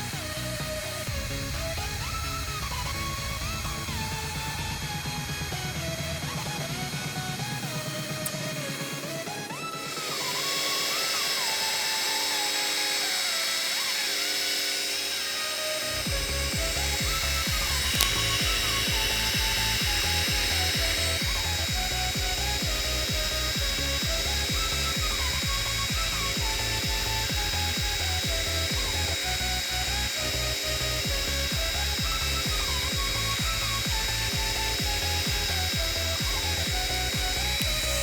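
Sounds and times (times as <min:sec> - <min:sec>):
background music: 0:00.0 - 0:38.0
laser engraver motors whining: 0:00.0 - 0:38.0.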